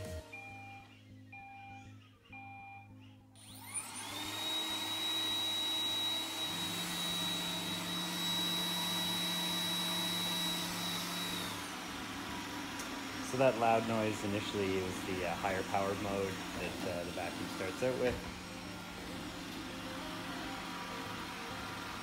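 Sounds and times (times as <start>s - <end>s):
vacuum motor whine: 3.4s - 22.0s.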